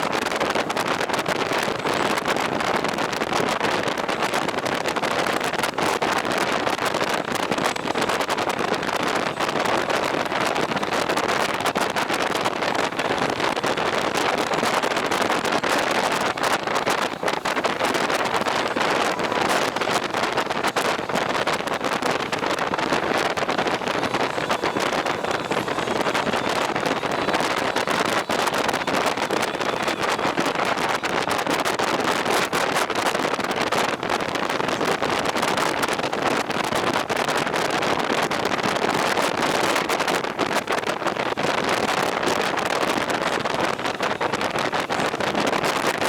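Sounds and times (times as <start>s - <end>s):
vehicle and road noise: 0.0s - 46.0s
wind buffeting microphone: 0.0s - 46.0s.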